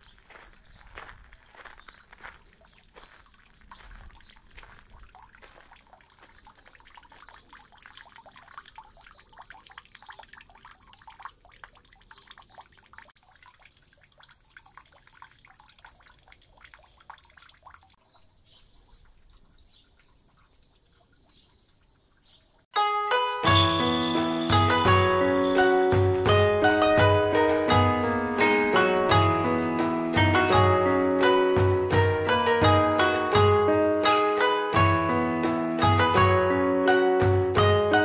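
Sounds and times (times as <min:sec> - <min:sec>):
water trickling into stone basin: 0:01.4 - 0:22.8, 0:23.4 - 0:33.1.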